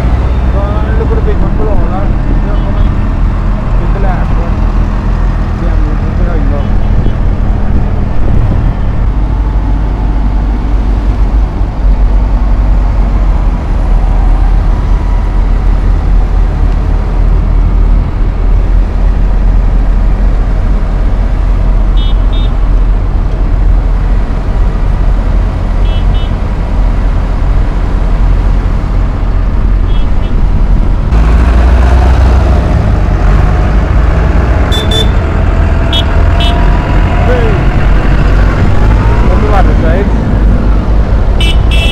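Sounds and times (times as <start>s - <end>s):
tractor engines rumbling: 0.0s - 41.9s.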